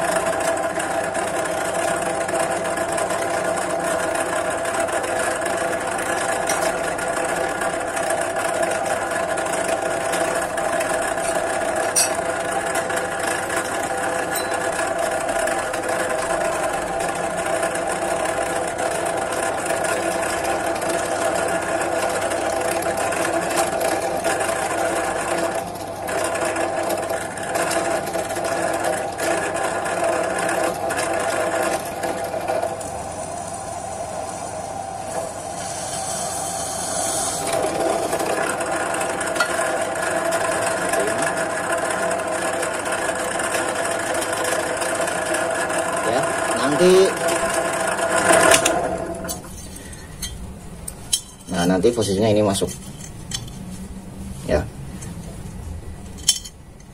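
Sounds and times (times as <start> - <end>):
drill bit drilling steel: 0.0 - 50.3
drill press motor humming: 0.0 - 52.0.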